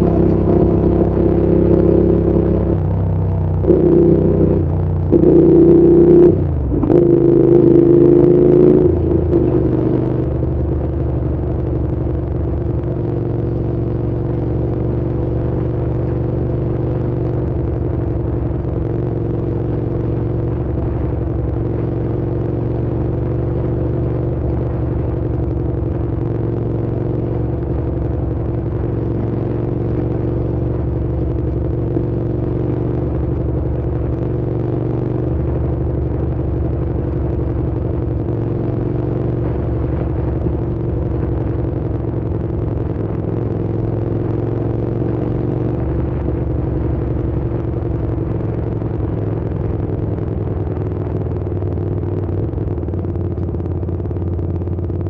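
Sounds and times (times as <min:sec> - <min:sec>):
motorcycle engine running steadily: 0:00.0 - 0:55.0.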